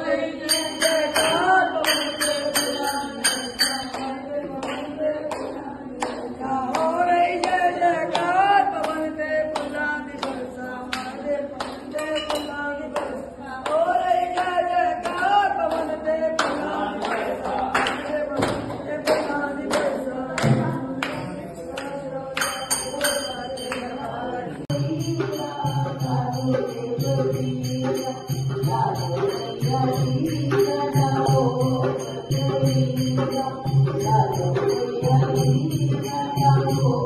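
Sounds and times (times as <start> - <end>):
voices singing devotional song: 0.0 - 37.0.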